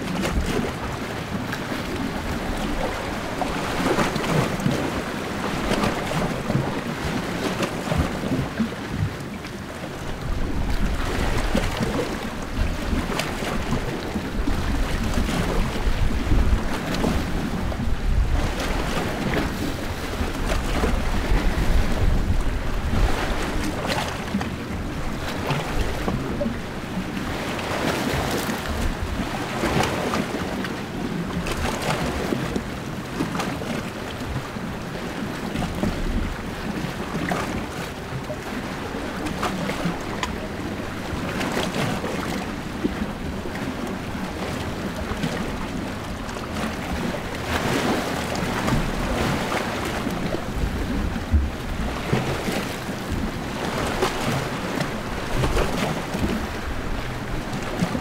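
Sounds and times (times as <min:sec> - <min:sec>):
waves lapping against rocks: 0:00.0 - 0:58.0.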